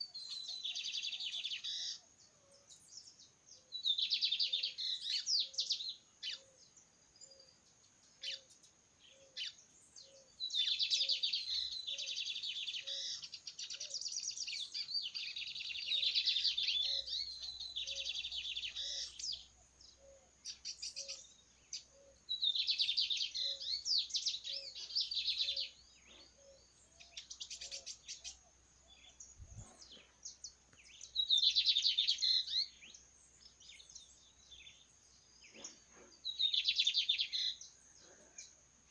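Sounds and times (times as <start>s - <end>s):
bird singing rapid song: 0.0s - 38.9s.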